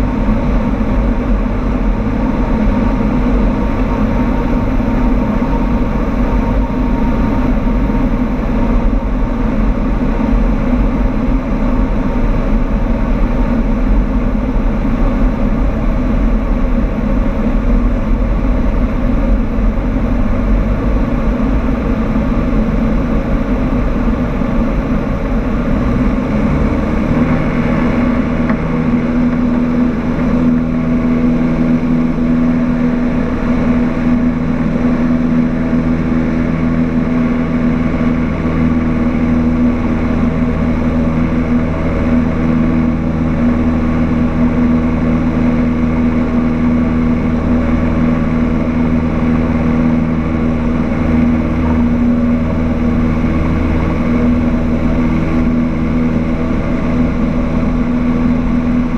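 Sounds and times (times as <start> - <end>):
propeller plane engine in cabin: 0.0 - 58.9.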